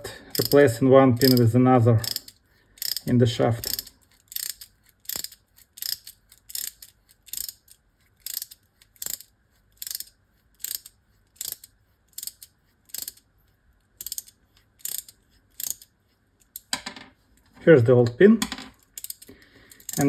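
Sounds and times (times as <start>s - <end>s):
ratchet wrench clicking: 0.3s - 13.3s, 14.0s - 16.7s, 18.8s - 20.0s.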